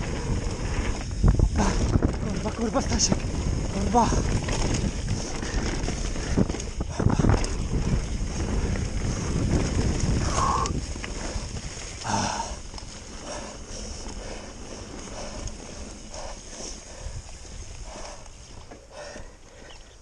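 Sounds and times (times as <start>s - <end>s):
bike rattling and knocking: 0.0s - 20.0s
tyres on dirt and leaves: 0.0s - 20.0s
wind buffeting microphone: 0.0s - 20.0s.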